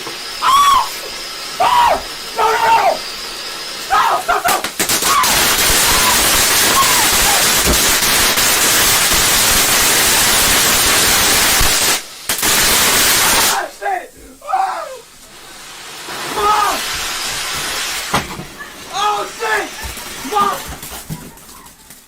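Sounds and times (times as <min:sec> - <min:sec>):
firework hissing crackle: 0:00.0 - 0:22.0.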